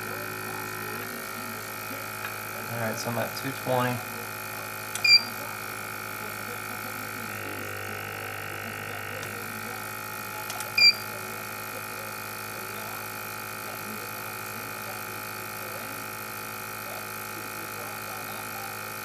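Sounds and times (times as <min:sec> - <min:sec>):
rework station running: 0:00.0 - 0:19.0.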